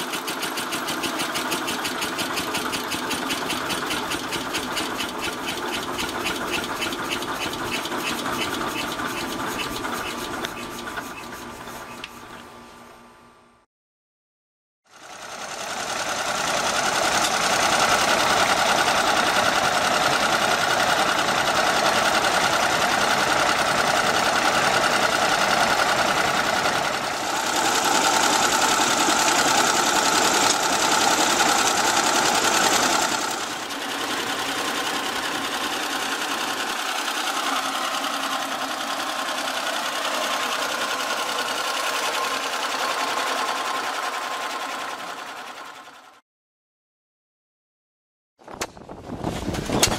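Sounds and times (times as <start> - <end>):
engine running steadily: 0.0 - 13.4, 14.9 - 46.2.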